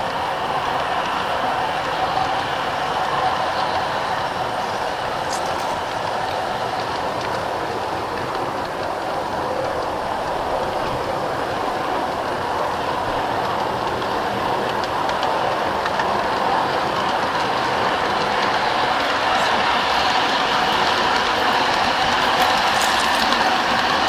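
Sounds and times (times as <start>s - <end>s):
model train wheels rumbling: 0.0s - 24.0s.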